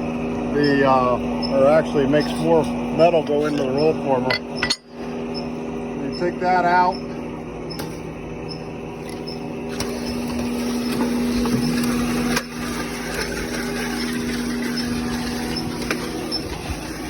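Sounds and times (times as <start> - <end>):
roll former machine humming: 0.0 - 17.0.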